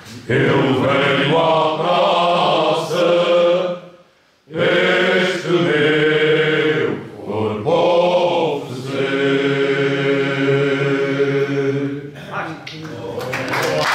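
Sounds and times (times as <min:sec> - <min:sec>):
men singing unaccompanied: 0:00.2 - 0:03.8, 0:04.5 - 0:12.1.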